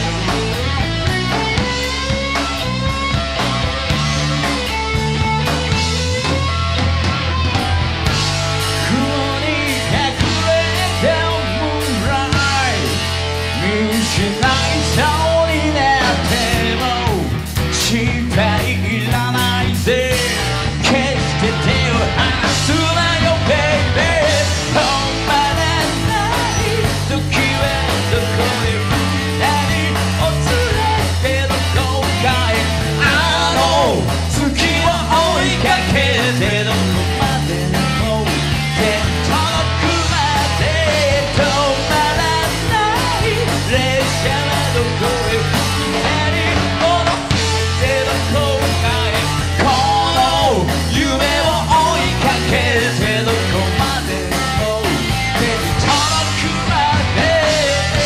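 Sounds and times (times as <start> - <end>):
rock band playing: 0.0 - 58.0
man singing: 8.6 - 58.0.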